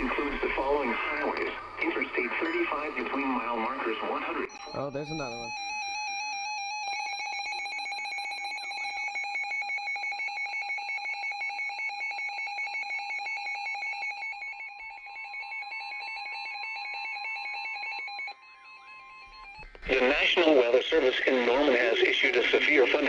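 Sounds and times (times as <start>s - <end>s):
weather radio alert alarm pulsing: 0.0s - 7.9s, 10.4s - 23.0s
steady warning alarm tone: 0.0s - 23.0s.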